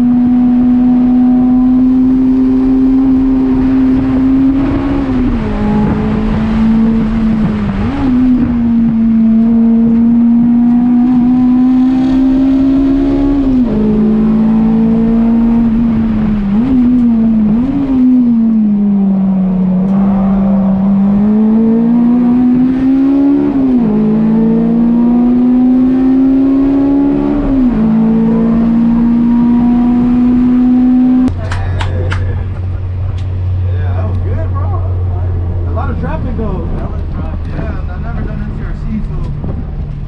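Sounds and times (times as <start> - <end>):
race car engine accelerating: 0.0 - 40.0.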